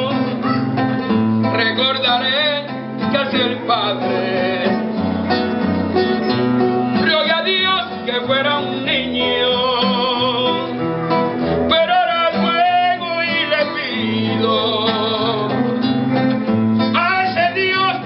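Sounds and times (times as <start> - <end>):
man singing into a microphone: 0.0 - 5.2, 6.9 - 16.2, 16.9 - 18.0
guitar accompaniment: 0.0 - 18.0.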